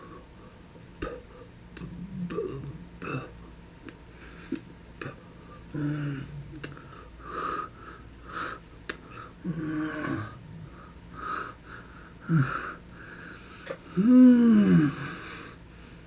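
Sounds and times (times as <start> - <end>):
man's wheezy vocal noises: 0.0 - 3.5, 4.2 - 16.0.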